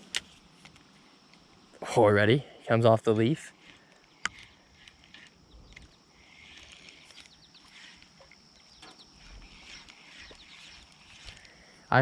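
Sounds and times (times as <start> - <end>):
birds chirping: 1.0 - 12.0.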